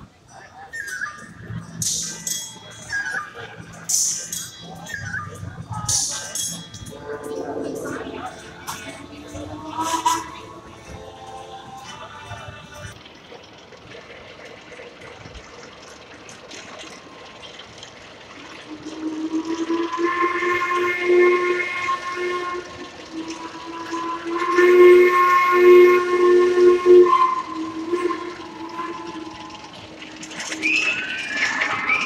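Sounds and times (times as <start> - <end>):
steam locomotive whistle blasts: 0.9 - 13.0, 18.4 - 32.0.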